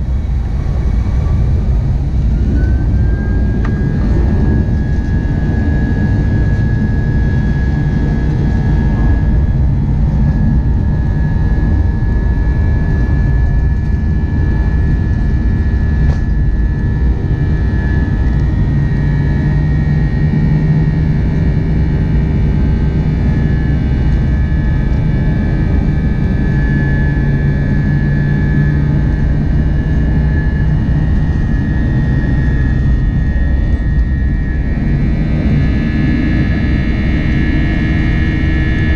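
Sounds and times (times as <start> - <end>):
jet engines deep rumble: 0.0 - 38.9
thin steady whine: 0.0 - 38.9.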